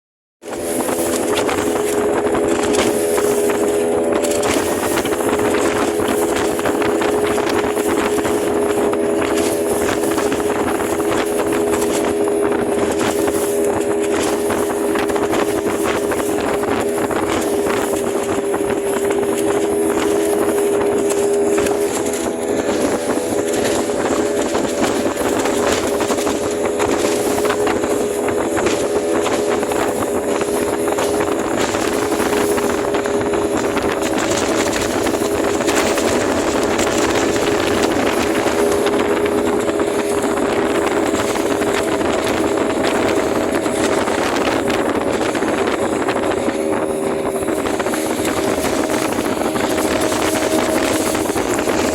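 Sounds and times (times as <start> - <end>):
outboard motor drone: 0.0 - 51.9
rush of wind and water: 0.0 - 51.9.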